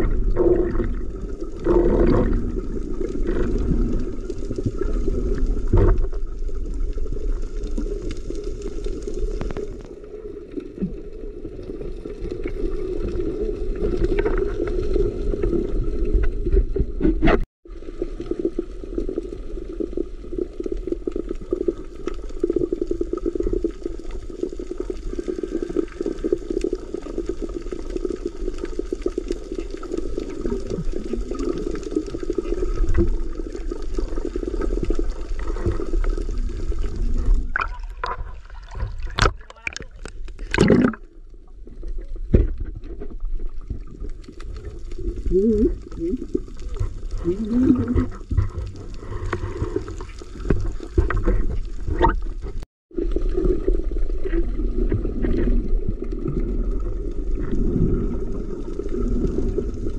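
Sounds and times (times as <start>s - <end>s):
muffled underwater rush: 0.0s - 59.9s.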